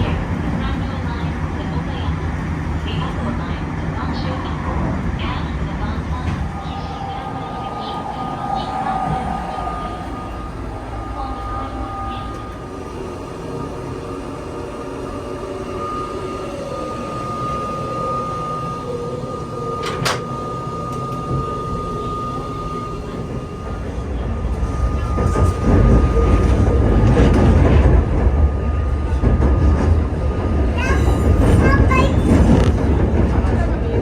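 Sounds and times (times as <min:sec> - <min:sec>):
train rumble with whine: 0:00.0 - 0:34.0.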